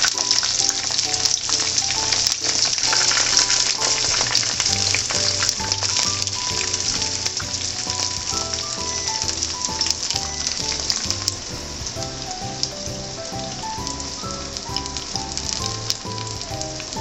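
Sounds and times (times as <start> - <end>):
okra sizzling in hot oil: 0.0 - 17.0
soft background music: 0.0 - 17.0.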